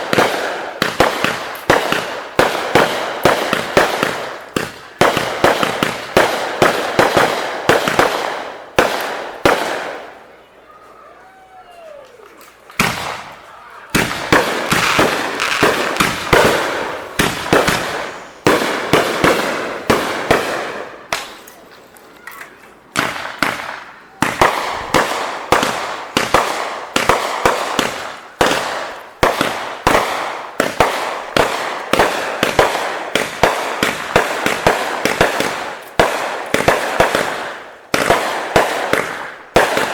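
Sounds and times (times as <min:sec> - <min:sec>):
fireworks bangs and cracks: 0:00.0 - 0:10.3, 0:12.5 - 0:21.6, 0:22.9 - 0:39.9.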